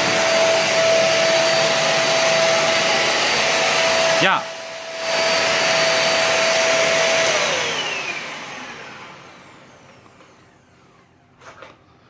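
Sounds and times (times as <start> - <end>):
vacuum cleaner motor winding down: 0.0 - 11.2.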